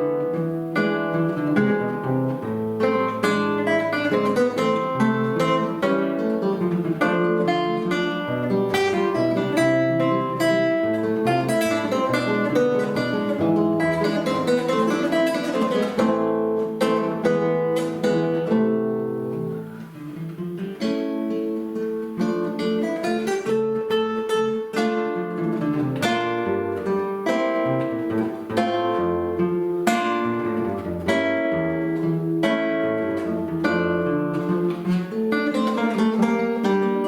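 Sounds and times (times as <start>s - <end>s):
acoustic guitar duet: 0.0s - 37.0s.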